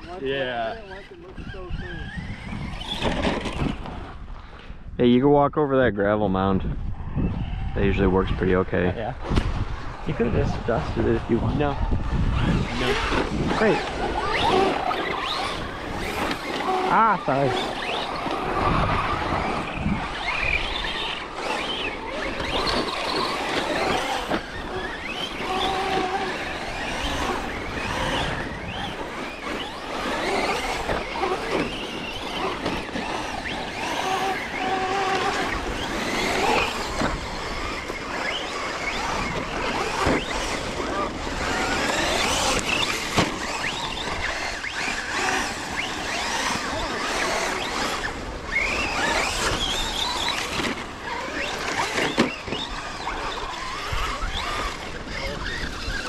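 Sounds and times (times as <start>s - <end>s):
electric motors whining: 0.0s - 4.4s, 6.8s - 56.0s
constant rushing noise: 0.0s - 56.0s.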